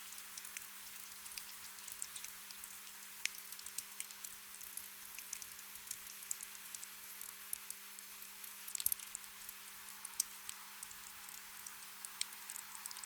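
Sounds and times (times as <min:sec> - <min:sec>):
gentle rain pattering: 0:00.0 - 0:13.0.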